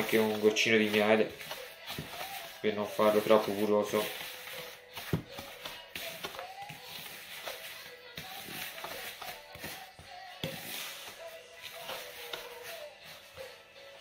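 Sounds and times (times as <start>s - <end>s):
spoon stirring in plastic bowl: 0.0s - 13.6s
faint background music: 0.0s - 14.0s.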